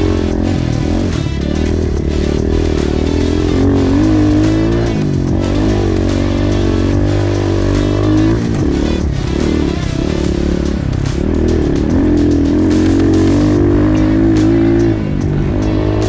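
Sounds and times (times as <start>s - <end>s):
background music: 0.0s - 16.0s
utv engine under throttle: 0.0s - 16.0s.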